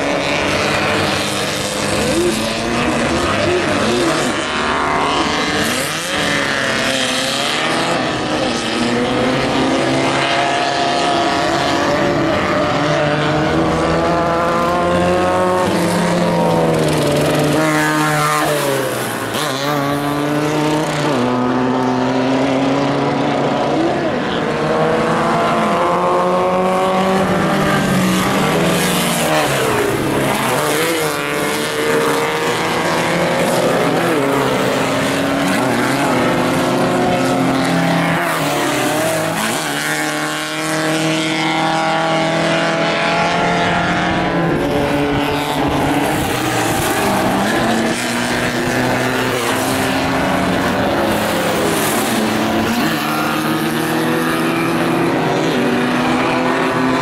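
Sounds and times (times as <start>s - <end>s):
racing buggy engines passing: 0.0s - 57.0s.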